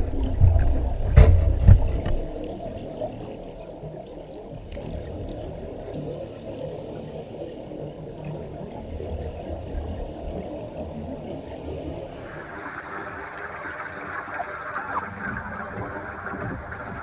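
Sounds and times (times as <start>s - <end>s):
muffled water rumble: 0.0s - 17.0s.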